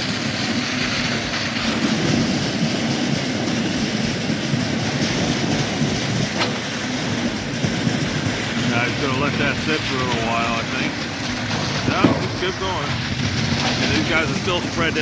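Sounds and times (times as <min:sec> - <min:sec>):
concrete pump truck running: 0:00.0 - 0:15.0.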